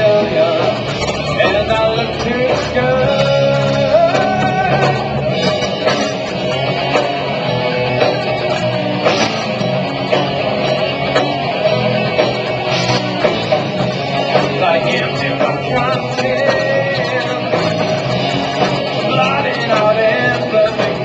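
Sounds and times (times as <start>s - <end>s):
electric guitar: 0.0s - 21.0s
live rock band playing: 0.0s - 21.0s.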